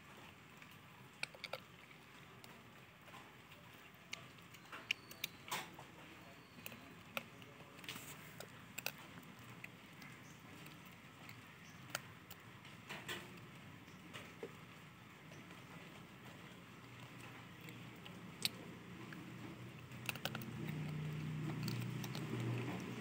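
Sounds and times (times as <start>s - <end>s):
monkey chewing chickpeas: 0.0s - 23.0s.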